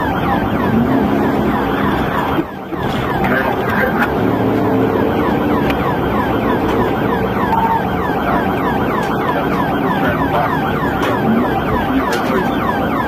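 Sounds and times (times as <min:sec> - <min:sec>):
car engine and tyre noise: 0:00.0 - 0:13.0
police siren yelping: 0:00.0 - 0:13.0.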